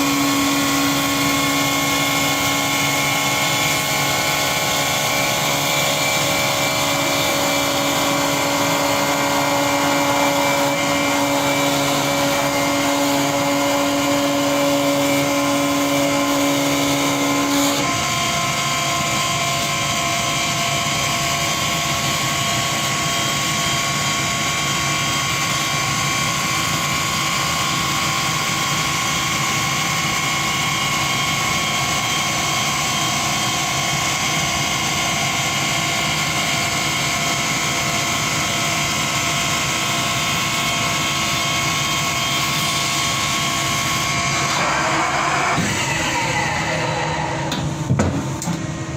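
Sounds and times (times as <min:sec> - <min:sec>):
wood lathe running: 0:00.0 - 0:47.8.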